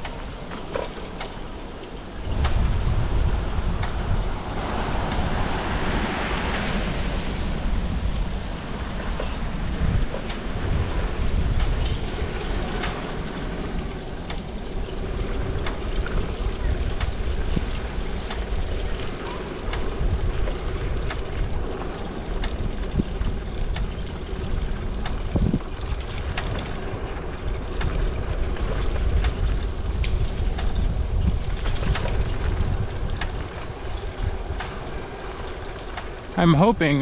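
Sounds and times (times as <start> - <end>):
wind buffeting the microphone: 0.0 - 37.0.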